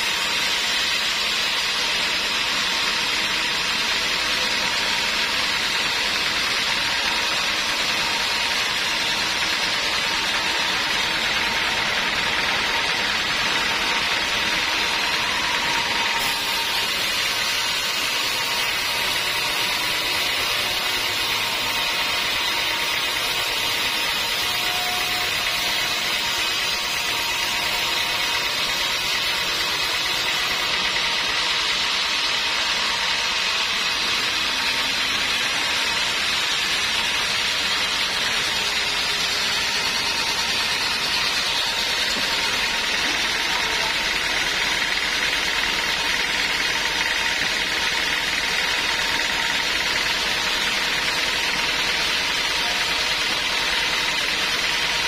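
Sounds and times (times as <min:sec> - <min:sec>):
sawmill machine noise: 0:00.0 - 0:55.0.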